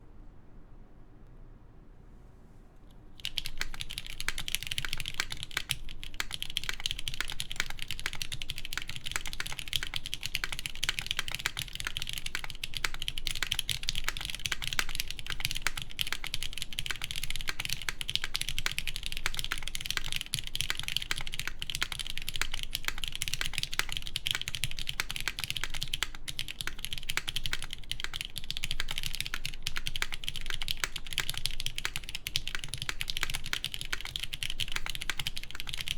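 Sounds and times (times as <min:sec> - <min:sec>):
fast typing on mechanical keyboard: 0:03.2 - 0:35.9.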